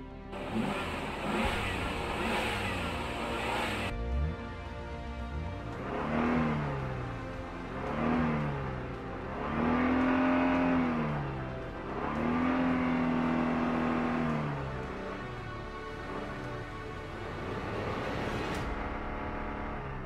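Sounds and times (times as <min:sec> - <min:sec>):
car engine revving: 0:00.3 - 0:20.0.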